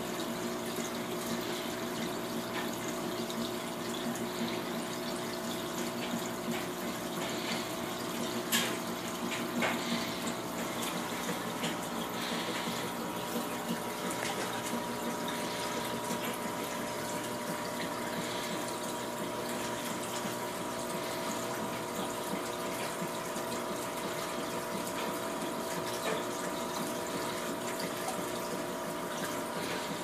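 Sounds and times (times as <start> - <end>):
pump hum: 0.0 - 30.0
water rushing and trickling: 0.0 - 30.0.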